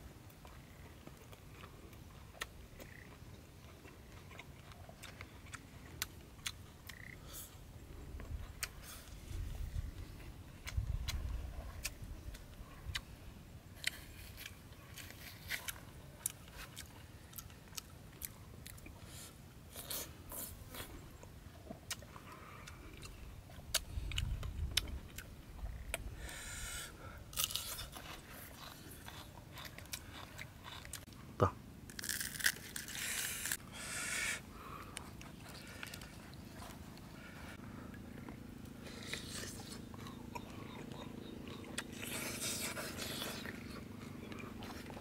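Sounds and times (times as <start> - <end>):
person chewing and crunching food: 0.4 - 7.6, 13.8 - 31.2, 31.9 - 33.6, 34.6 - 45.0.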